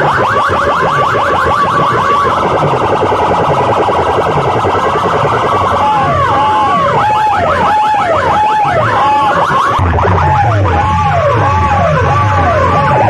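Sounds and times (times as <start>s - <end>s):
rapid falling electronic chirps: 0.0s - 13.0s
siren wail: 0.0s - 13.0s.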